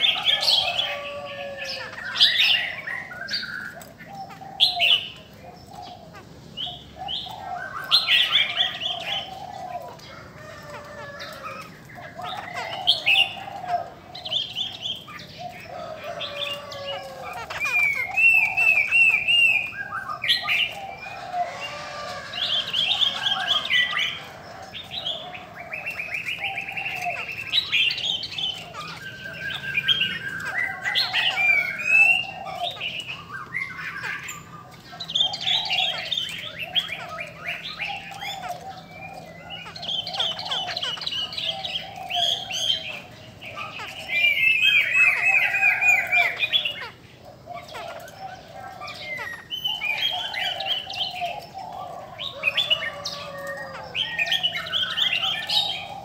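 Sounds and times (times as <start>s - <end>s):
birds whistling and chattering: 0.0s - 56.0s
low repeated bird call: 0.0s - 56.0s.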